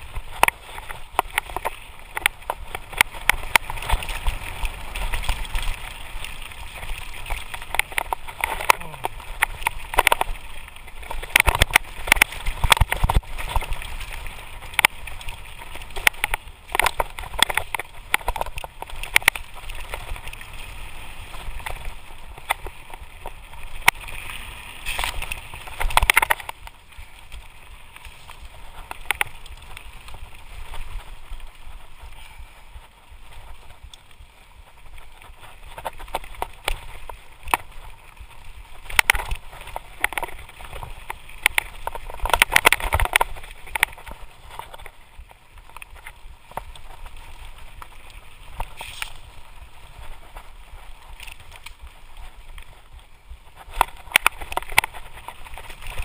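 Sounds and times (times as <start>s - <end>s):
bike knocking and rattling: 0.0s - 56.0s
tyres crunching over stones: 0.0s - 56.0s.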